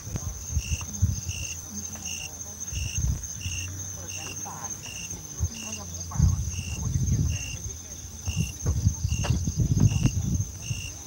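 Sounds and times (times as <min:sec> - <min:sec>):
lower pulsing insect call: 0:00.0 - 0:11.0.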